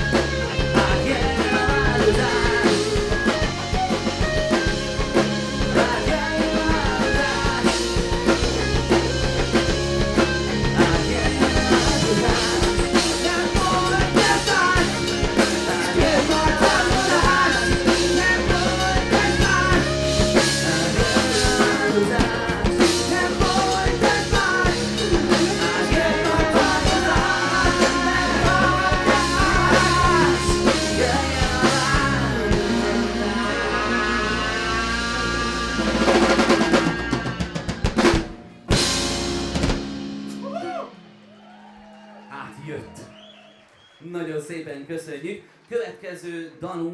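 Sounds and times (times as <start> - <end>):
person singing: 0.0 - 9.6, 10.2 - 38.2
electric guitar: 0.0 - 41.1
drum kit: 0.0 - 41.7
live rock band: 0.0 - 42.1.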